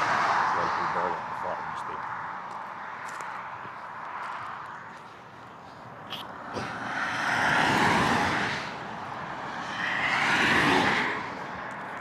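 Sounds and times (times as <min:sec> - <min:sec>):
road vehicles passing by: 0:00.0 - 0:12.0.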